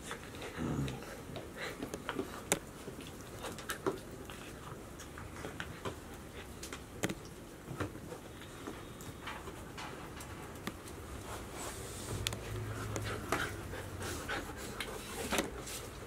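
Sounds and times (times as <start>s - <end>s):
puppies scuffling: 0.0s - 16.0s.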